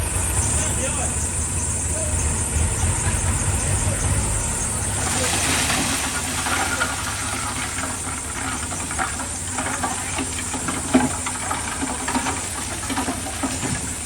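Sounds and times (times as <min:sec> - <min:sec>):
diesel machinery running: 0:00.0 - 0:14.0.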